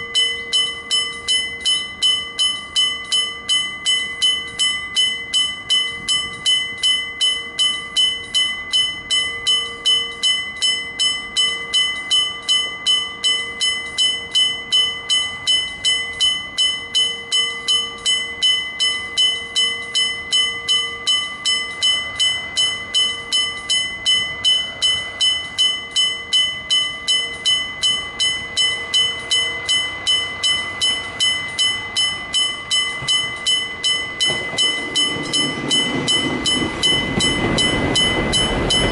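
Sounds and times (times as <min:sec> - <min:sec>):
level-crossing bell ringing: 0:00.0 - 0:38.9.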